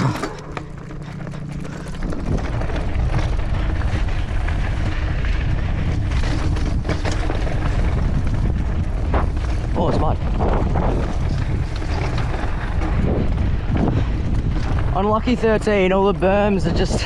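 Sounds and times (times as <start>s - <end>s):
bike rattling and knocking: 0.0s - 17.0s
tyres on loose dirt: 0.0s - 17.0s
wind over microphone: 1.4s - 17.0s.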